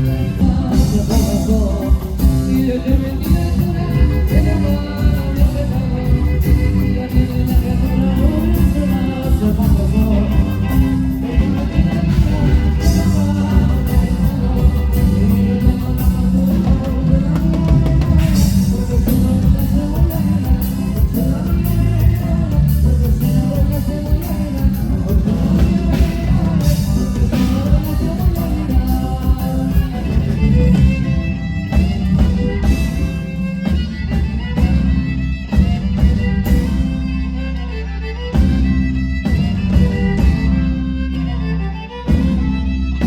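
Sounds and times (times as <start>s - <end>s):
drum kit beats: 0.0s - 43.0s
live band playing: 0.0s - 43.0s.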